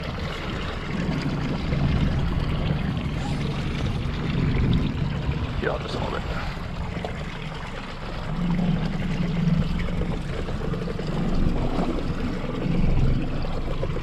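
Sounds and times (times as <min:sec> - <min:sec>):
outboard motor humming: 0:00.0 - 0:14.0
water washing against hull: 0:00.0 - 0:14.0.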